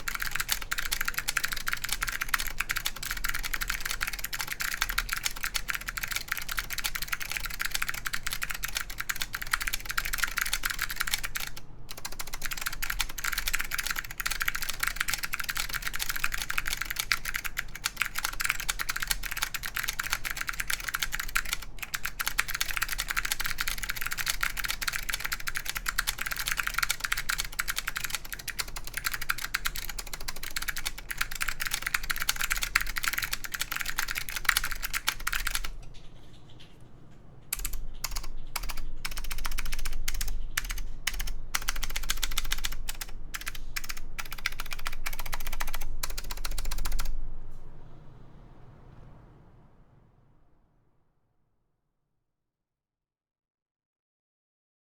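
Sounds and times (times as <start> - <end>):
clicky mechanical keyboard typing: 0.0 - 36.8, 37.4 - 47.2.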